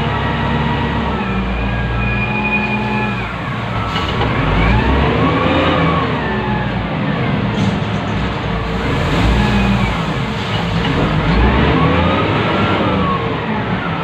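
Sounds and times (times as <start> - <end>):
diesel engine revving: 0.0 - 14.0.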